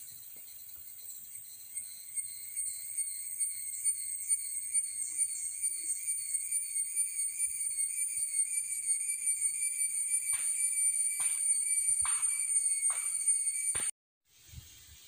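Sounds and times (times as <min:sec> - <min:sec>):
insects chorus pulsing: 0:00.0 - 0:13.9.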